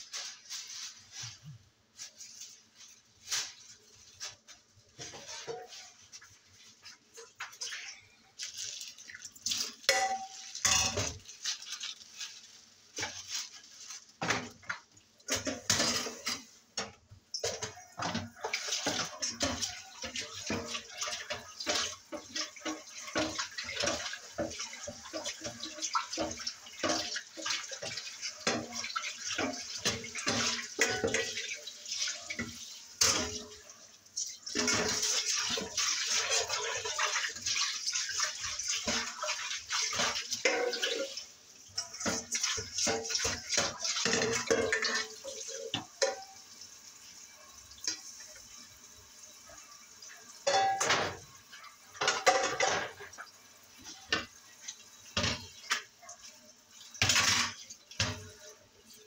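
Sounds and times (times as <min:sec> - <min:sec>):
dishes and utensils clinking: 0:04.2 - 0:12.4, 0:13.0 - 0:46.5, 0:49.5 - 0:59.0.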